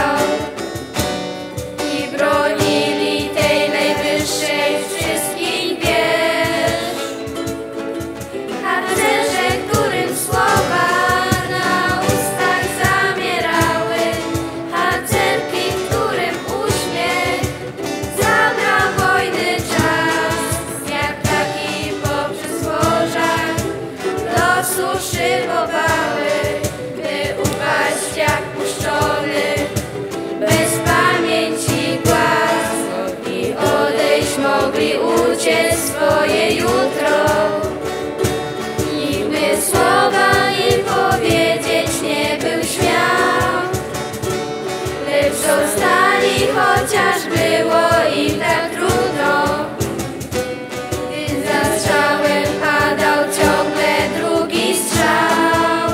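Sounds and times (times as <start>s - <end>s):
youth choir singing in parts: 0.0s - 7.6s, 8.3s - 55.9s
strummed acoustic guitar: 0.0s - 55.9s
ukulele: 0.0s - 55.9s.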